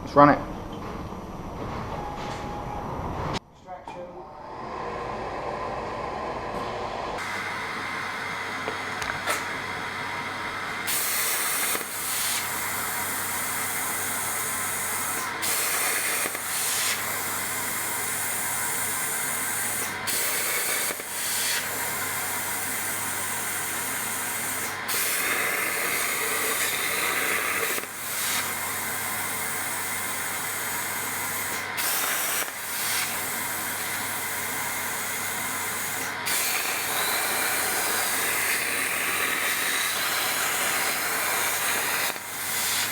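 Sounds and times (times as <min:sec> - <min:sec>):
plasma cutter torch hissing: 0:07.2 - 0:42.9.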